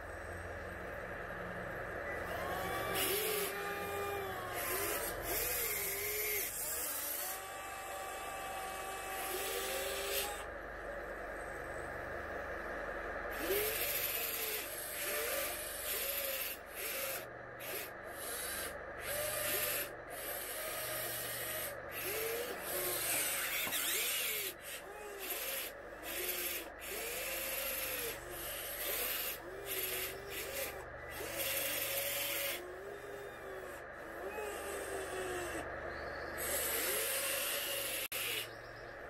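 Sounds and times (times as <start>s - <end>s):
electric motors whirring: 0.0s - 39.0s.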